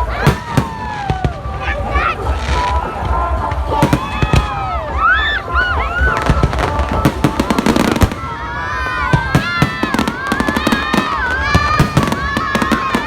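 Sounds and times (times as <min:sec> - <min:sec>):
fireworks cracking and banging: 0:00.0 - 0:13.0.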